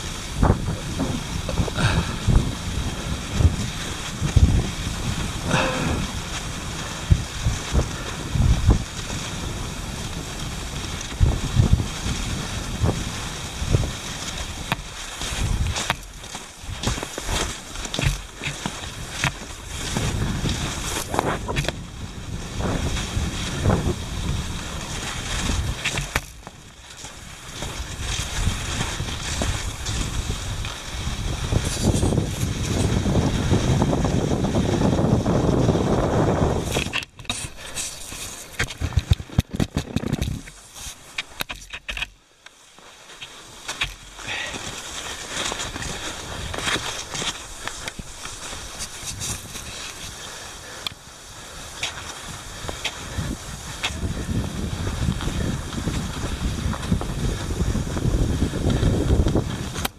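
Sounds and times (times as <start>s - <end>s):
wind buffeting microphone: 0.0s - 40.7s, 43.8s - 59.9s
skis gliding in snow: 0.0s - 59.9s.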